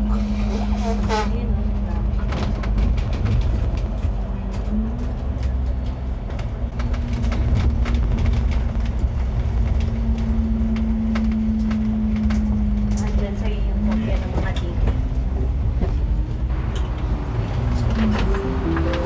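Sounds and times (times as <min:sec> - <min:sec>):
bus engine and road rumble: 0:00.0 - 0:19.0
rattles from bus body: 0:00.0 - 0:19.0.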